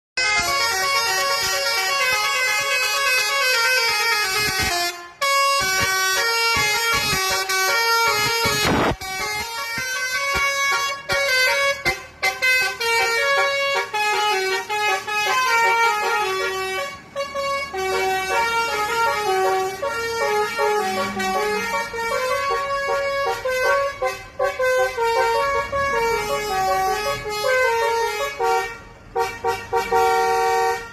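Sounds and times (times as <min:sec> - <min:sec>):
bus horn melody: 0:00.2 - 0:30.9.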